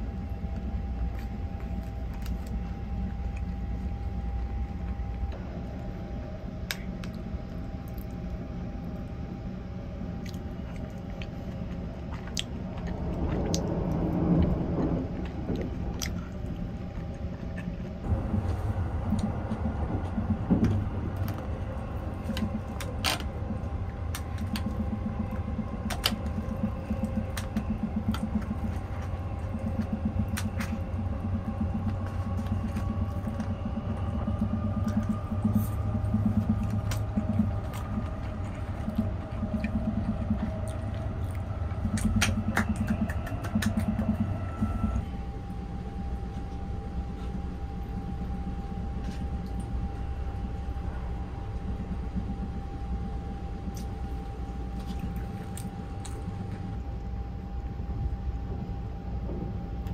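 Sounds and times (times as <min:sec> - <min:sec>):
soft pulsing hum: 0:00.0 - 0:59.9
train rumbling: 0:00.0 - 0:59.9.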